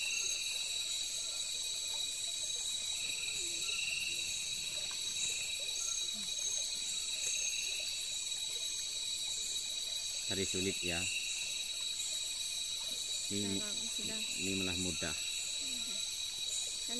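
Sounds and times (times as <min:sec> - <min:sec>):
insect chorus trilling: 0:00.0 - 0:16.9.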